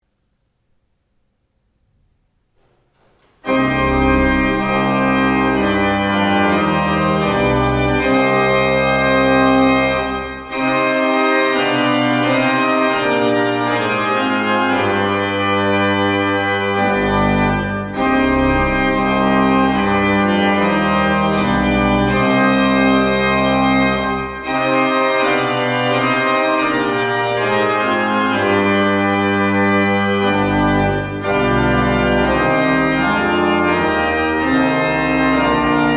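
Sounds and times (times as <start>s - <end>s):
organ music in held chords: 2.4s - 35.9s.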